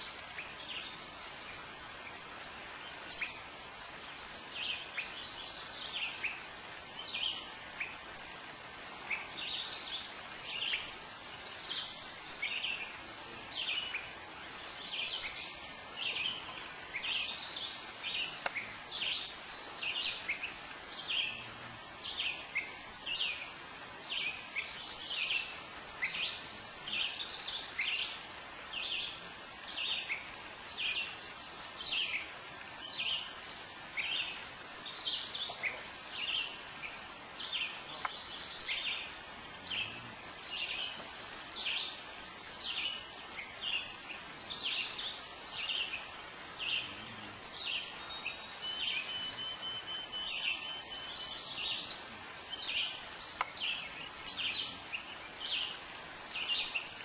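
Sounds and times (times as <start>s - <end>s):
birds chirping and singing: 0.0s - 57.0s
faint background hiss: 0.0s - 57.0s.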